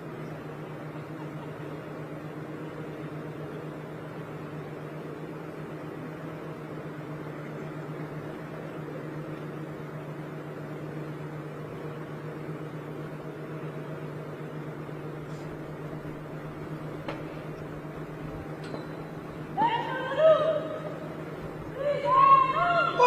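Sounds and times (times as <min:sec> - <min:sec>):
steady low hum with hiss: 0:00.0 - 0:23.0.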